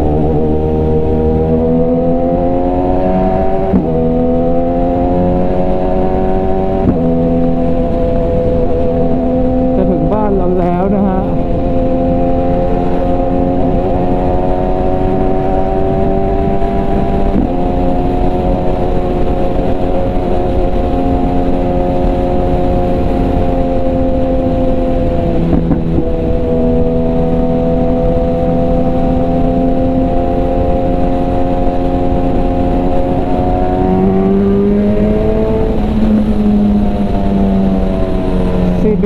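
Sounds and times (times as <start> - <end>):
motorcycle engine cruising: 0.0 - 39.0
wind rumble: 0.0 - 39.0.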